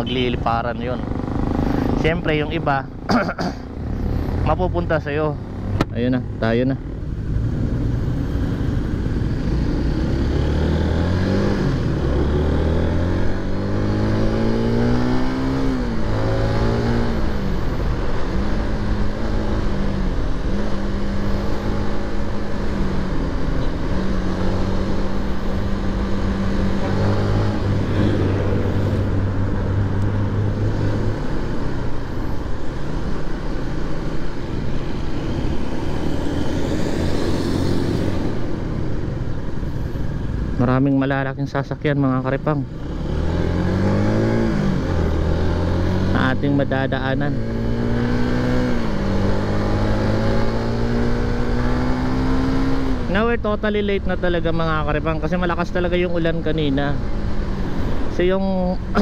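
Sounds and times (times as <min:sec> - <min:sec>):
motorcycle engine accelerating: 0:00.0 - 0:59.0
road noise: 0:00.0 - 0:59.0.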